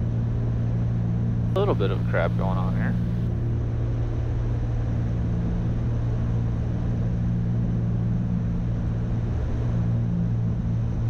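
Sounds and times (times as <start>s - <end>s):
aircraft engines and propellers droning: 0.0s - 11.0s.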